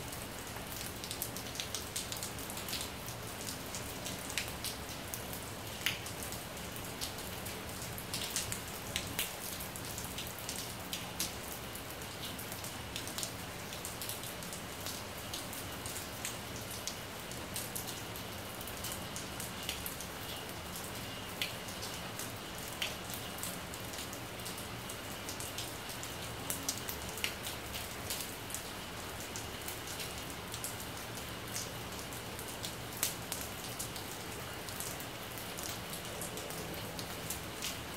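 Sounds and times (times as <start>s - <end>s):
rain on a tiled roof: 0.0s - 37.9s.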